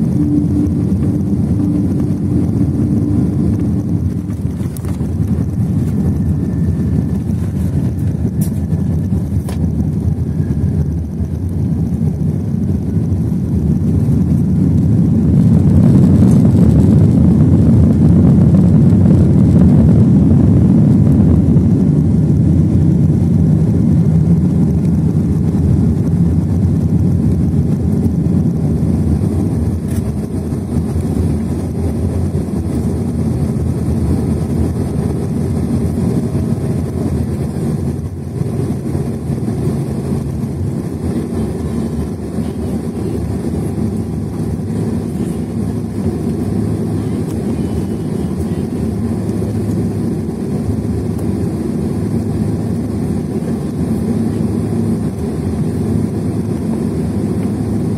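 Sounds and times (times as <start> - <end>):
faint hum shifting in pitch: 0.0 - 57.9
low rumble of wheels and engines: 0.0 - 57.9.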